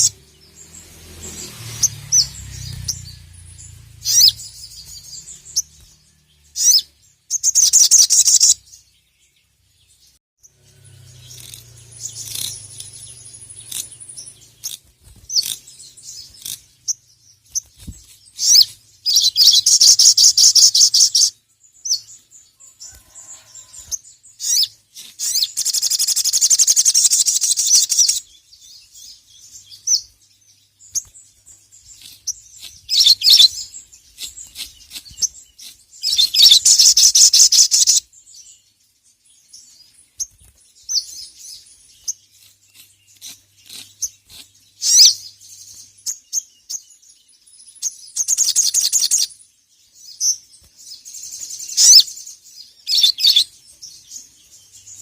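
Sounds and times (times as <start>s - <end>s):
songbird trilling: 0.0s - 8.9s, 10.4s - 22.2s, 22.8s - 38.5s, 40.8s - 49.4s, 50.0s - 55.0s
bird sharp chirps: 0.0s - 55.0s.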